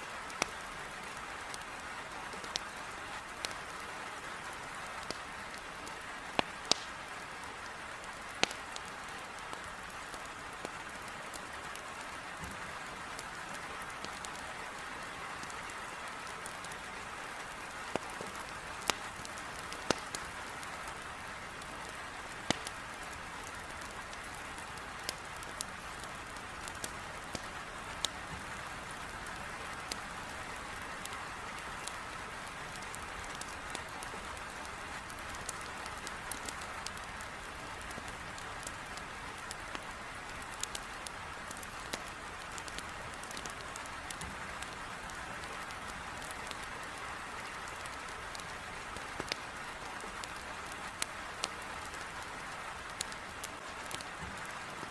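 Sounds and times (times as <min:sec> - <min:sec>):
heavy rain on a window: 0:00.0 - 0:54.9
wood fire popping: 0:00.3 - 0:01.7, 0:02.4 - 0:02.8, 0:05.0 - 0:07.3, 0:08.0 - 0:12.6, 0:16.2 - 0:49.6, 0:50.2 - 0:52.0, 0:52.9 - 0:54.9.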